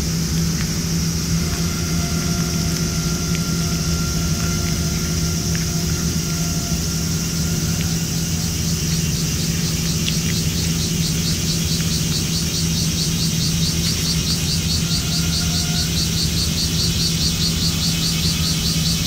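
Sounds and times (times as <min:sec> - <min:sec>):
low mechanical hum: 0:00.0 - 0:19.0
pulsing cicada call: 0:00.0 - 0:19.0.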